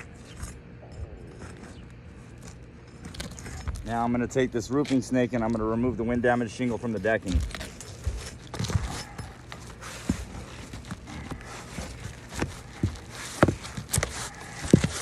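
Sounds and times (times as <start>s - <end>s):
metal tool scraping under shingle: 0.0s - 15.0s.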